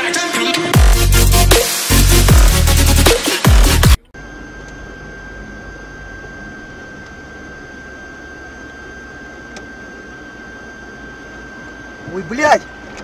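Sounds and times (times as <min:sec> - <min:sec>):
high-pitched whine: 0:00.7 - 0:13.0.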